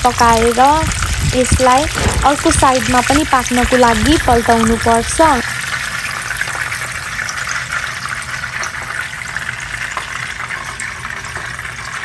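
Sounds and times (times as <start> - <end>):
fish sizzling in hot oil: 0.0 - 12.0
oil popping and crackling: 0.0 - 12.0.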